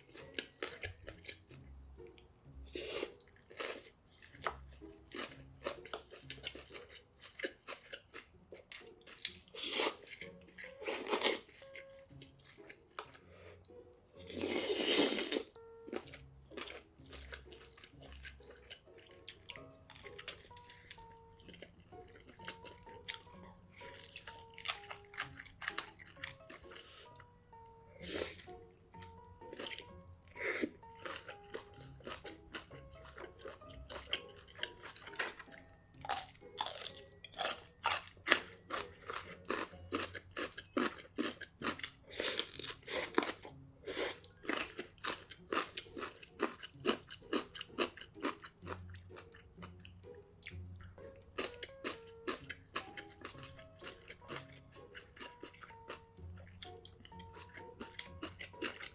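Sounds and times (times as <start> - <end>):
person chewing crunchy food: 0.0 - 58.9
soft background music: 0.0 - 58.9.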